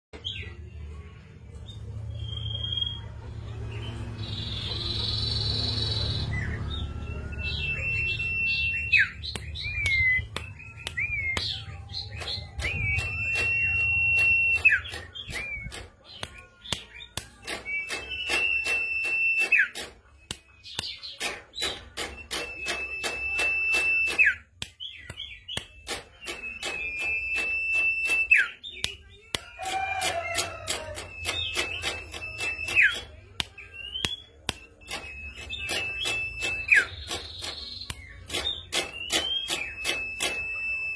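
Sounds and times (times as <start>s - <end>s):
songbird singing whistled notes: 1.6s - 40.9s
steady sharp clicks: 4.1s - 40.9s.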